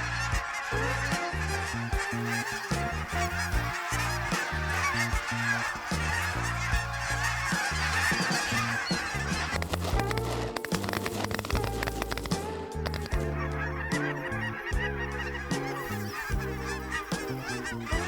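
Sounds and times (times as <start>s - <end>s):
geese honking: 0.0s - 18.0s
music with bass line: 0.0s - 18.0s.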